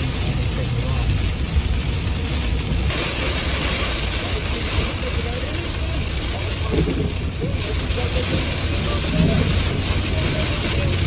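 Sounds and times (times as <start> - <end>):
rain hissing on windshield: 0.0 - 11.0
road and engine rumble: 0.0 - 11.0.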